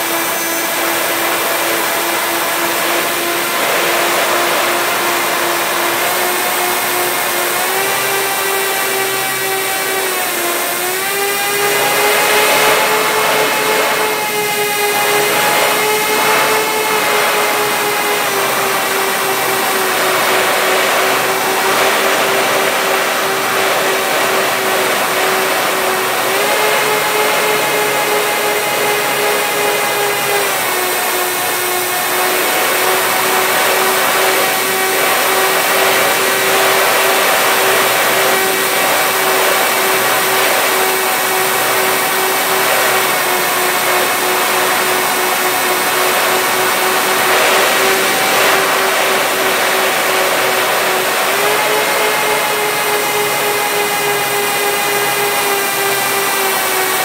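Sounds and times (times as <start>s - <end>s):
electric motors and propellers whining: 0.0s - 57.0s.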